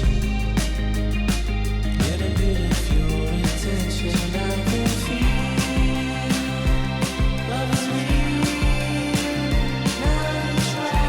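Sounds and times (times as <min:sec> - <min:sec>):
guitar-led backing track: 0:00.0 - 0:11.0.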